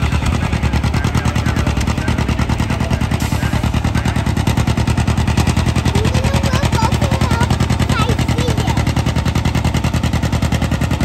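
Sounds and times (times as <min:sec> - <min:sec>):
exhaust popping: 0:00.0 - 0:11.0
tractor engine labouring: 0:00.0 - 0:11.0.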